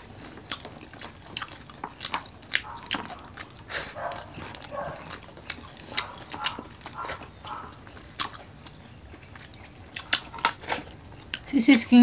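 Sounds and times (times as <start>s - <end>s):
wet chewing: 0.0s - 11.6s
lip smacking: 0.2s - 11.5s.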